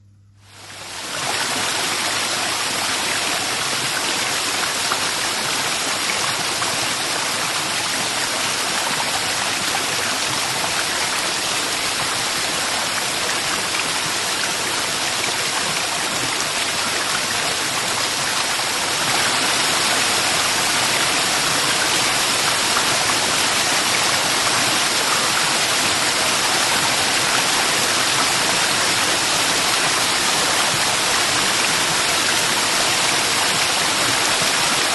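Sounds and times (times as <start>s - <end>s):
waterfall rushing: 0.7s - 34.9s.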